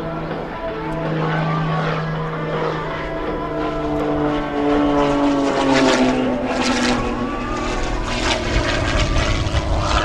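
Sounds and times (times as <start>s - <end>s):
propeller plane engine passing: 0.0s - 10.0s.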